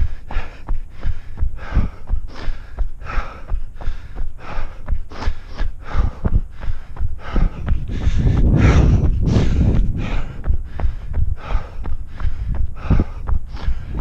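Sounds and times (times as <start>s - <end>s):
runner breathing hard: 0.0s - 14.0s
running footsteps thudding: 0.0s - 14.0s.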